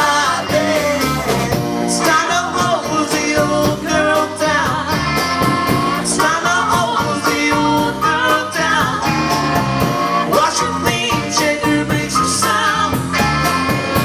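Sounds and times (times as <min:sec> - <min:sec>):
guitar: 0:00.0 - 0:14.0
rock band playing live: 0:00.0 - 0:14.0.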